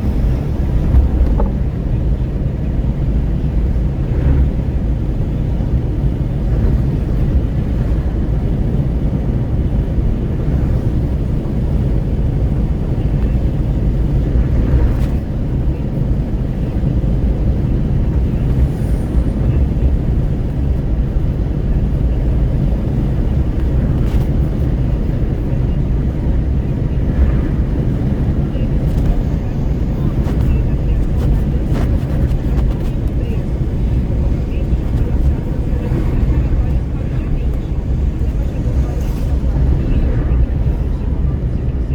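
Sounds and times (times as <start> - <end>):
road and tyre noise: 0.0 - 41.9
wind through open car window: 0.0 - 41.9.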